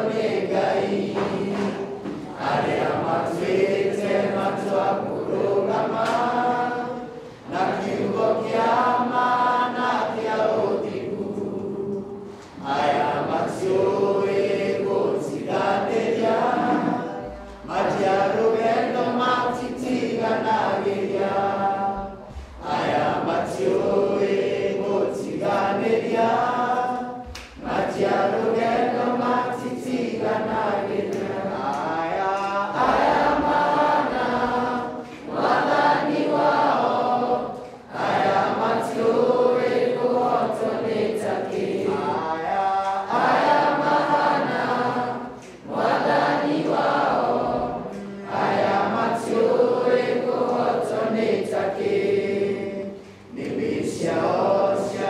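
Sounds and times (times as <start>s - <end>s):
boys singing together: 0.0s - 55.0s.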